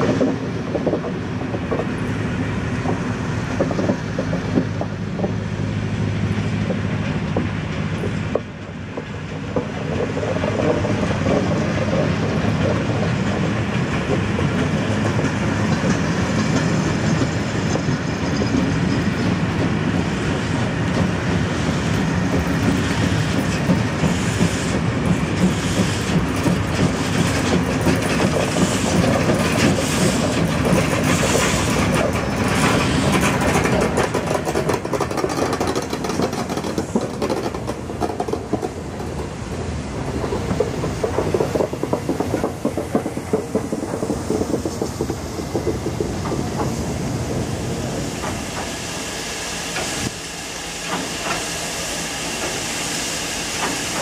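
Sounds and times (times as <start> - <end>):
wheels clattering over rail joints: 0.0 - 48.8
steam train rolling past: 0.0 - 54.0.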